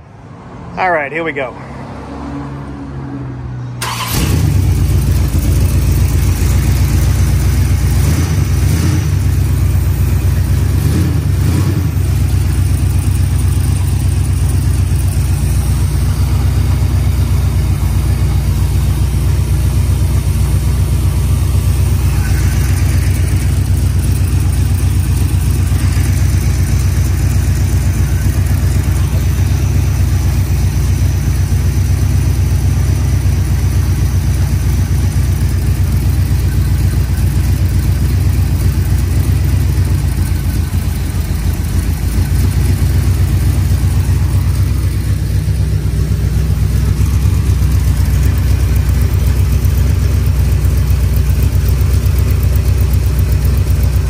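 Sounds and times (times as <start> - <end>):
engine starting and running: 3.6 - 54.0.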